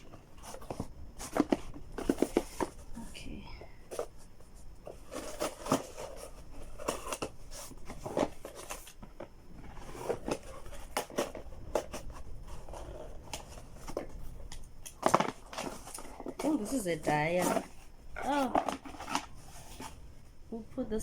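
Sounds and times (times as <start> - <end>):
box packaging crinkling and scraping: 0.0 - 20.1.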